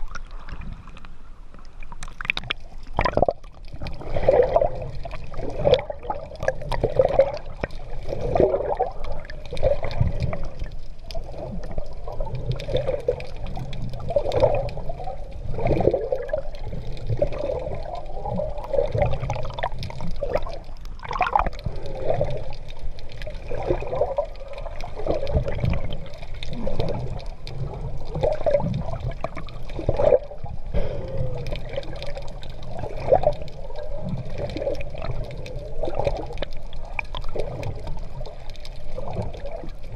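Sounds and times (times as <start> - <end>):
water splashing around swimmer: 2.2 - 39.9.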